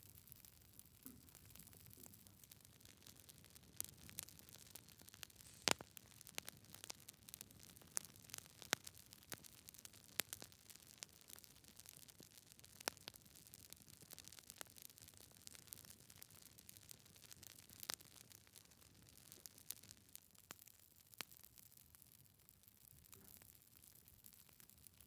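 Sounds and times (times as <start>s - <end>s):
logs crackling and popping: 0.0s - 22.5s.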